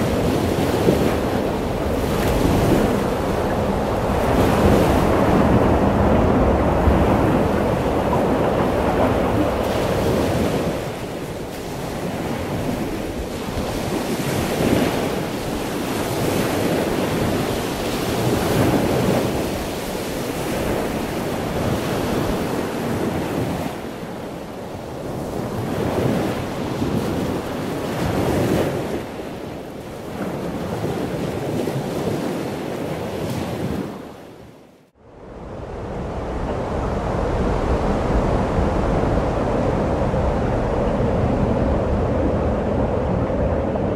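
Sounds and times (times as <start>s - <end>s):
wind buffeting microphone: 0.0s - 34.2s, 35.2s - 43.9s
ocean surf breaking: 0.0s - 43.9s.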